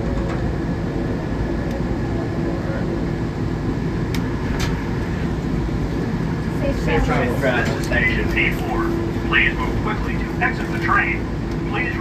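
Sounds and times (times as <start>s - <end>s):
train car rumbling: 0.0s - 12.0s.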